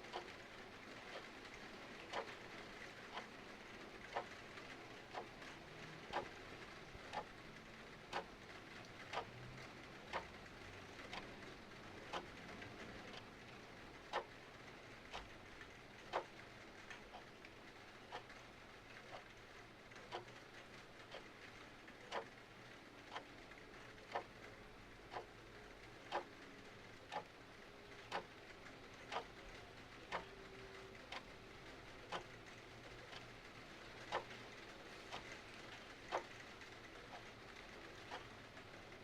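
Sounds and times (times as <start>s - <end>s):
clock ticking: 0.0s - 7.4s, 8.0s - 8.4s, 9.0s - 9.3s, 10.0s - 39.0s
rain patter: 0.0s - 39.0s.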